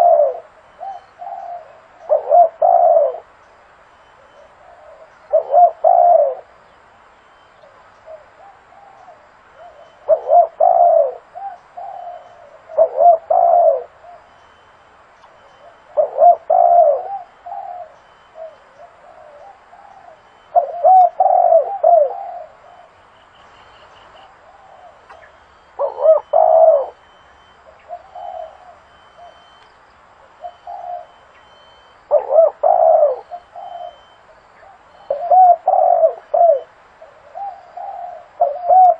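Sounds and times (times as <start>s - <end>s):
dove cooing: 0.0s - 3.4s, 4.0s - 6.6s, 7.2s - 38.9s.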